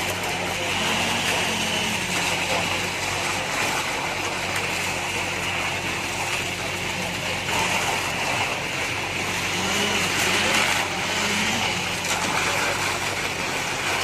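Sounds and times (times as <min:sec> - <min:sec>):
machinery noise: 0:00.0 - 0:14.0.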